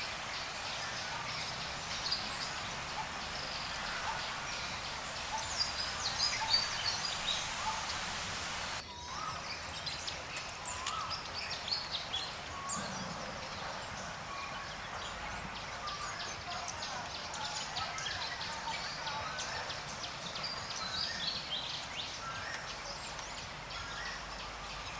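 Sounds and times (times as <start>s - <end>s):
background hiss: 0.0s - 24.9s.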